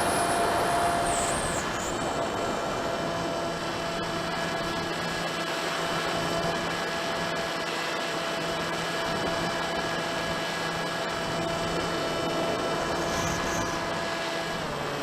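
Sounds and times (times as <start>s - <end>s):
model plane motor whine: 0.0s - 15.0s.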